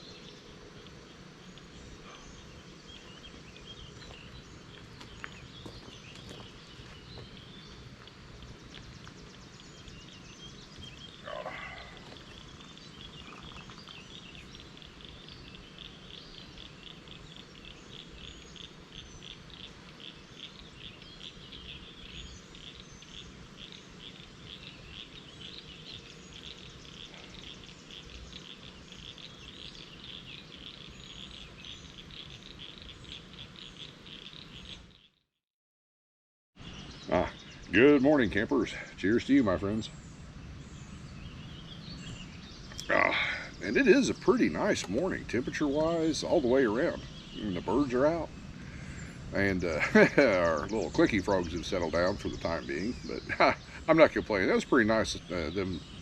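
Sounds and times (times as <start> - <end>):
frogs calling in chorus: 0.0 - 35.1, 42.7 - 56.0.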